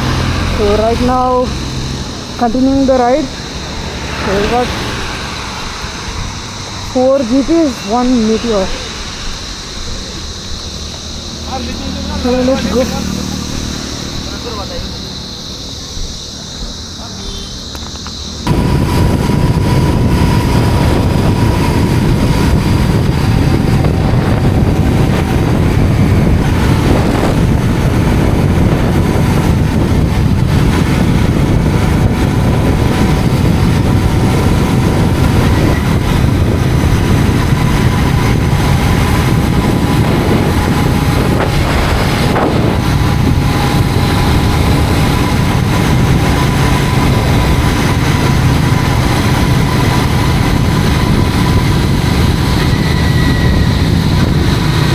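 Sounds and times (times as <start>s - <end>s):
motorcycle engine running: 0.0s - 54.9s
wind noise: 0.0s - 54.9s.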